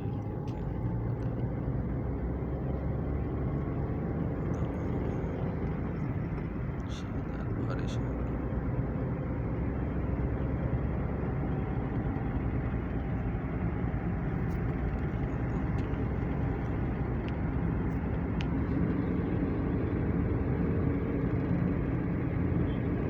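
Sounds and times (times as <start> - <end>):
vehicle driving on road: 0.0 - 23.0.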